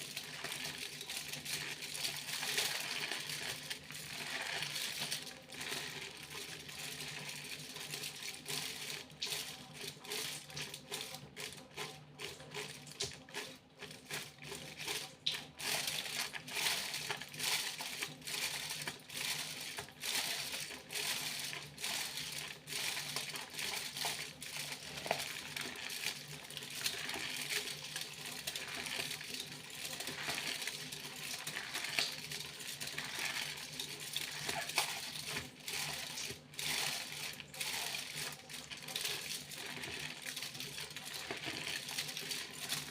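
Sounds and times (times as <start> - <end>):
foil crinkling and rustling: 0.0 - 11.2, 11.8 - 42.9.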